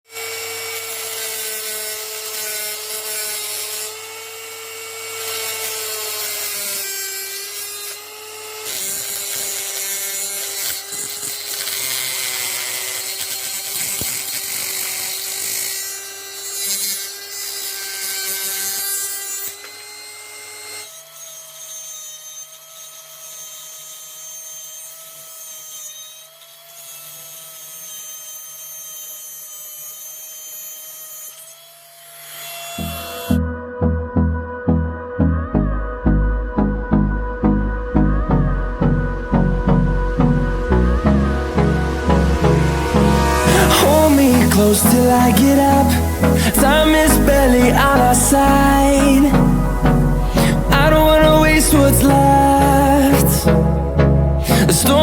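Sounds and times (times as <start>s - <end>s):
grinder disc rasping: 0.1s - 26.6s, 27.2s - 33.4s, 38.9s - 55.0s
angle grinder motor whine: 0.1s - 55.0s.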